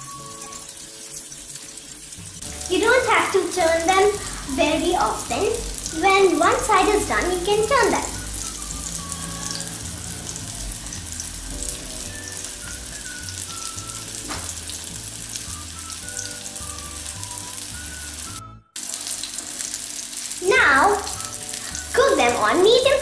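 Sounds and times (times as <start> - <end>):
chicken frying in hot oil: 0.0 - 23.0
soft background music: 0.0 - 23.0.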